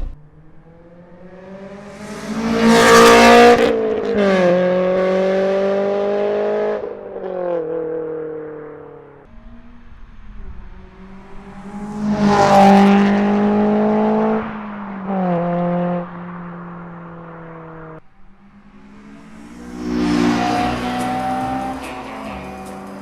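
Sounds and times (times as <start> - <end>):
car engine revving high: 0.0 - 6.8, 9.3 - 17.8, 18.4 - 23.0.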